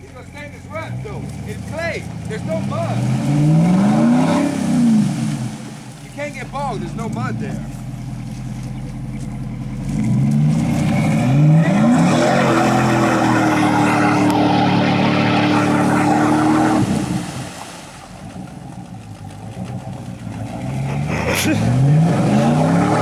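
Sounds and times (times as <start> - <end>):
truck engine revving: 0.0 - 23.0
tyres spinning throwing water spray: 0.0 - 23.0.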